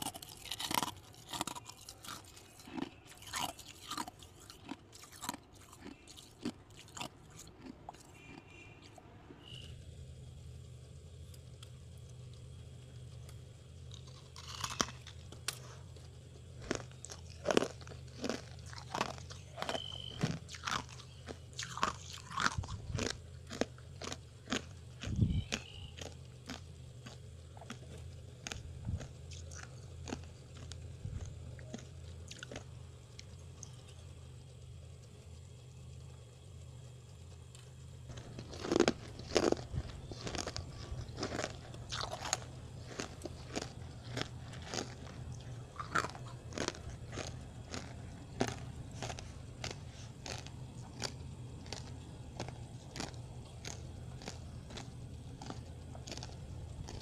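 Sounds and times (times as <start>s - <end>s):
crisp frost crunching when chewed: 0.0s - 9.7s, 11.3s - 34.0s, 37.5s - 57.0s
steady low hum: 0.0s - 57.0s.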